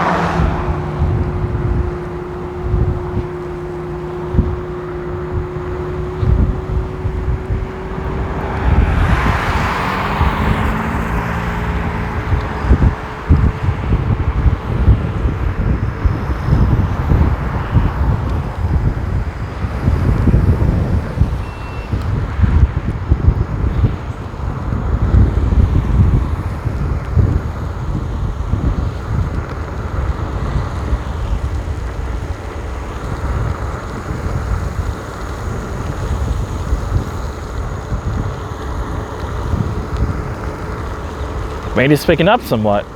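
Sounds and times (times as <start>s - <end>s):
car tyres hissing on wet road: 0.0s - 42.9s
wind buffeting microphone: 0.0s - 42.9s.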